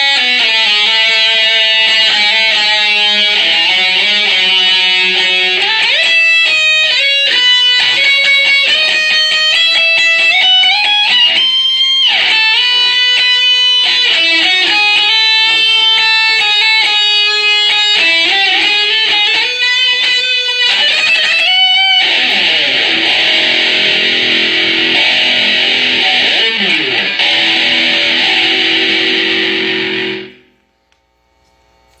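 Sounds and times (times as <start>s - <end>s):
electric guitar sliding notes: 0.0s - 30.6s.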